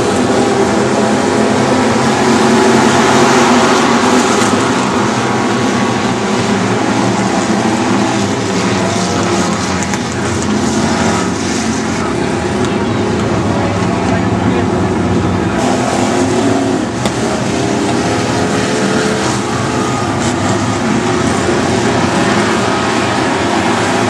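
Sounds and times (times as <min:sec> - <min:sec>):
race car engines roaring: 0:00.0 - 0:24.0.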